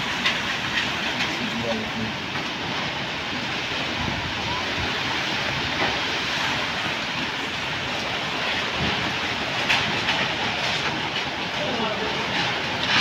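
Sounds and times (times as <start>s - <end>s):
driving rain: 0.0s - 13.0s
strong wind blowing: 0.0s - 13.0s.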